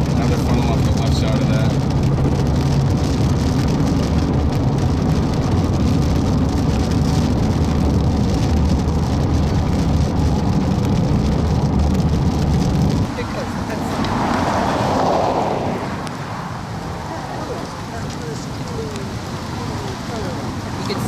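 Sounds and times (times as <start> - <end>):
car road and engine noise: 0.0 - 21.0
rain on windshield: 0.0 - 21.0.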